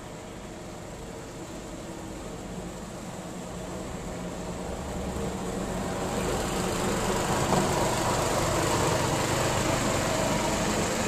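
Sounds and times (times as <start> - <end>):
vehicle engines in street traffic: 0.0 - 11.0.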